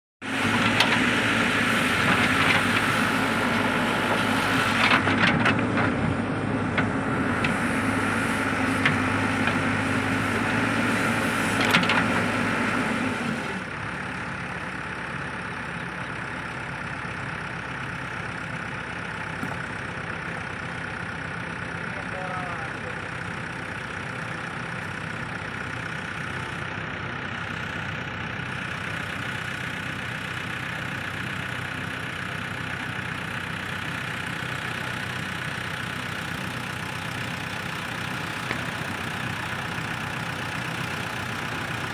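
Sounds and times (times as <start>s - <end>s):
heavy vehicle engine running: 0.2s - 41.9s.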